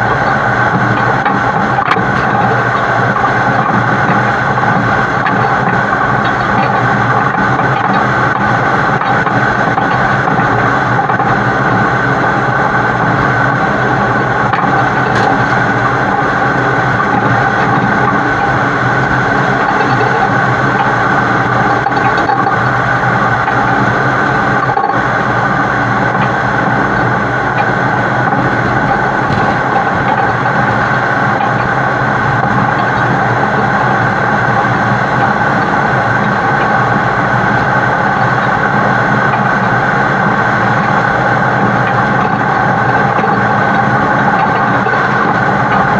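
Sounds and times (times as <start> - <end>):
road noise: 0.0 - 45.9
truck diesel engine droning: 0.0 - 45.9.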